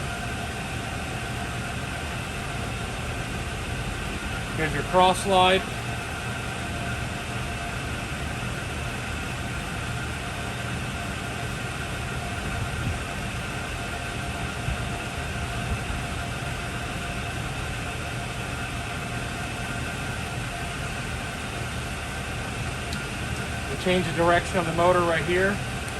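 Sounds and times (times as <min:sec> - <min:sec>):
lathe running with whine: 0:00.0 - 0:25.9.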